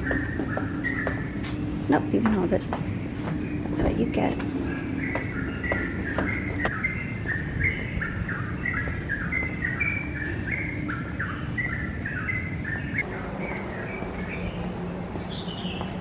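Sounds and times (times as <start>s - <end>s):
high-pitched insect drone: 0.0s - 13.0s
birds chirping: 0.0s - 16.0s.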